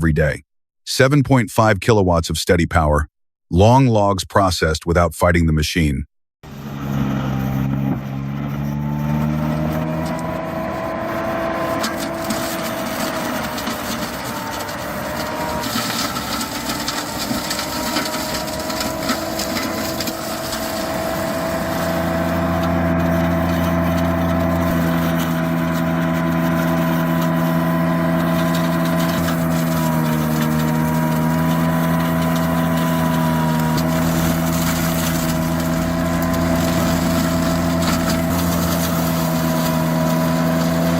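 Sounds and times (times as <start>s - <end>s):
saw-splitter machine hum and whine: 6.4s - 40.9s.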